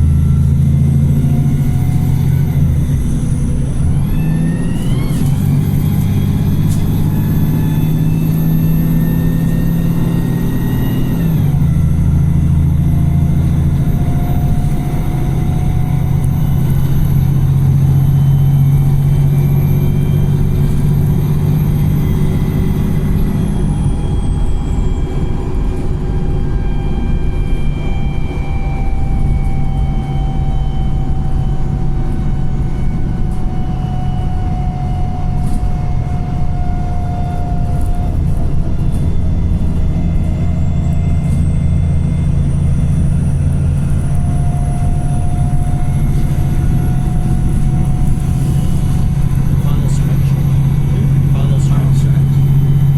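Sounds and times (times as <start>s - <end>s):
bus engine rumble: 0.0s - 52.9s
high whine: 0.0s - 52.9s.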